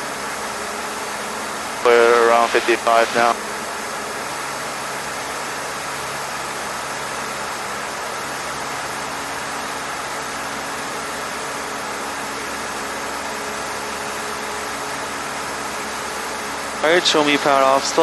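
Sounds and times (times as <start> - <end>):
aircraft engine and propeller droning: 0.0 - 18.0.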